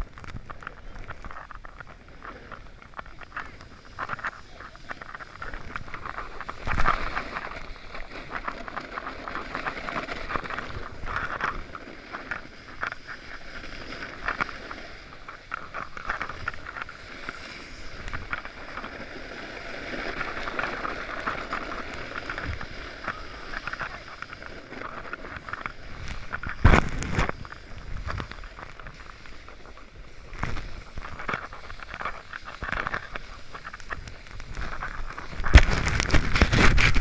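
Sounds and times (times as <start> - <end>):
snowboard scraping over snow: 0.0 - 37.0.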